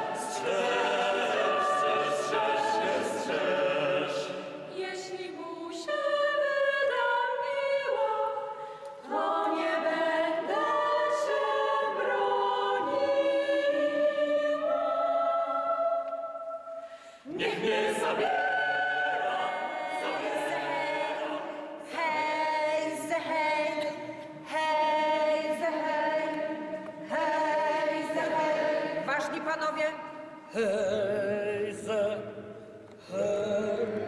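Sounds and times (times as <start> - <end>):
choir singing unaccompanied: 0.0 - 29.3, 30.5 - 34.0.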